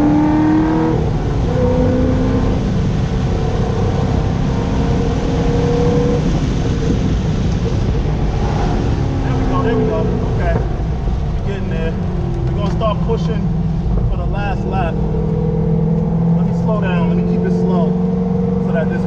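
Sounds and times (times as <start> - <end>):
car engine under load: 0.0 - 19.0
tyre and road noise: 0.0 - 19.0.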